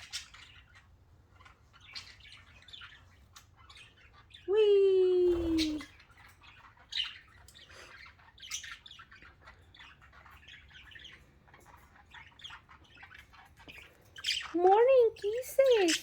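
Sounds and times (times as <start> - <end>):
budgerigars chirping and squawking: 0.0 - 4.5, 5.1 - 16.0.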